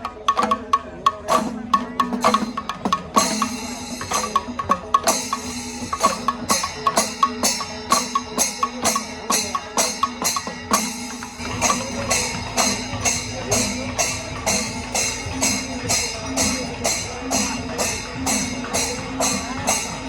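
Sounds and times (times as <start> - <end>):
drums beating: 0.0 - 20.0
hand cymbals clashing: 1.3 - 20.0.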